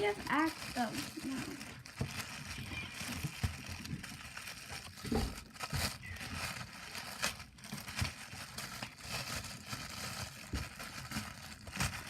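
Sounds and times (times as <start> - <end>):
slime crinkling and crackling: 0.0 - 12.0.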